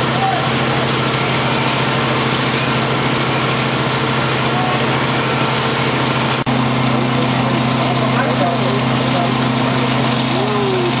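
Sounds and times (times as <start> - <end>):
engine driving water pump: 0.0 - 11.0
water rushing noise: 0.1 - 11.0.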